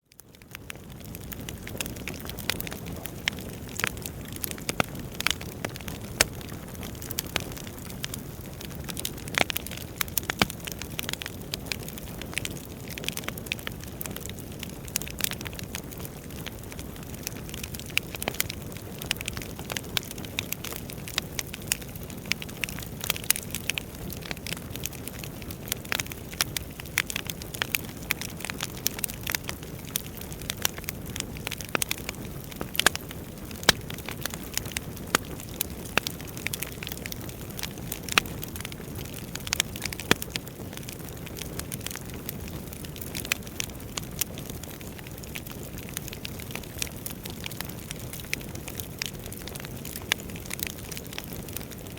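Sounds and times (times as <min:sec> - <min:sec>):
burning logs crackling and popping: 0:00.1 - 0:51.9.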